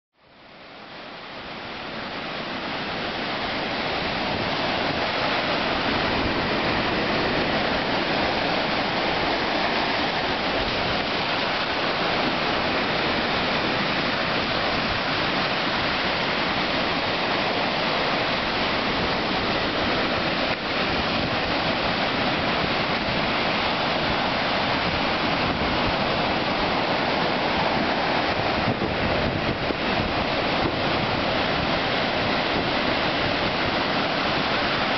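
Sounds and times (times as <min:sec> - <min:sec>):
waves breaking on beach: 0:00.3 - 0:34.9.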